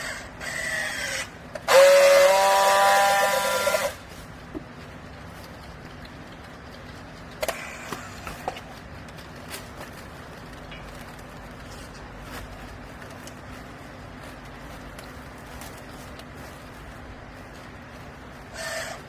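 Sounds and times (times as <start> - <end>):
hydraulic power unit humming: 0.0 - 19.0.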